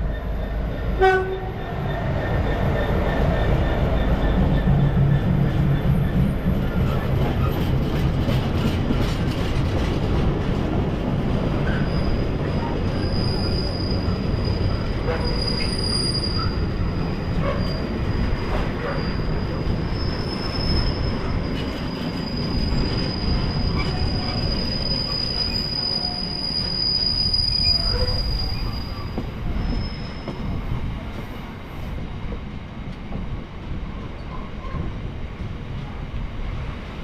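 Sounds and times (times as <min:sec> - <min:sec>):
train wheel squeal: 0:00.0 - 0:08.7, 0:11.5 - 0:31.5, 0:33.8 - 0:35.0
train rumble: 0:00.0 - 0:37.0.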